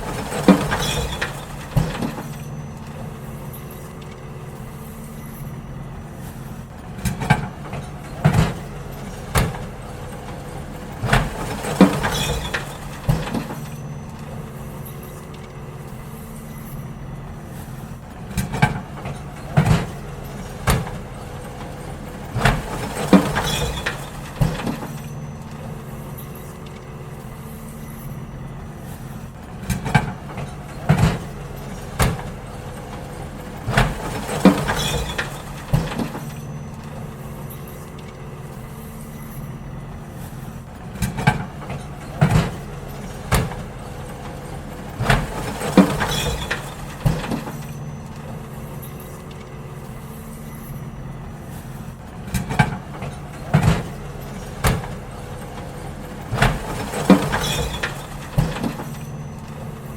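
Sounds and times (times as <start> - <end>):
bins banging and clattering: 0.0 - 59.9
garbage truck idling: 0.0 - 59.9.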